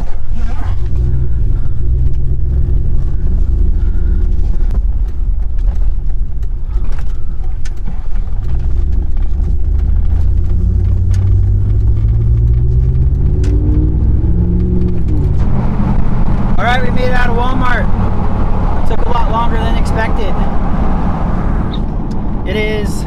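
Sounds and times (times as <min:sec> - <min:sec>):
road noise: 0:00.0 - 0:23.0
truck engine rumble: 0:00.0 - 0:23.0.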